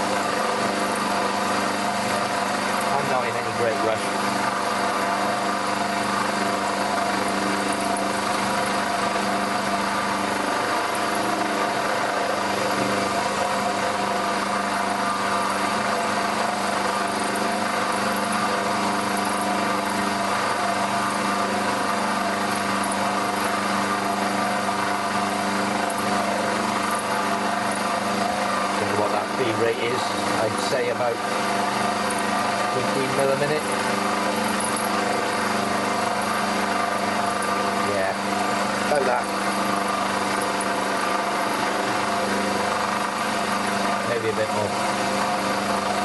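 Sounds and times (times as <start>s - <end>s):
milling machine cutting metal: 0.0s - 46.0s.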